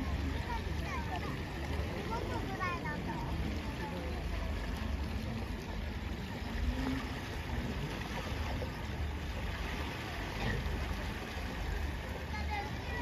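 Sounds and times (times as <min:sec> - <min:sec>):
people wading and splashing: 0:00.0 - 0:13.0
river water rushing: 0:00.0 - 0:13.0.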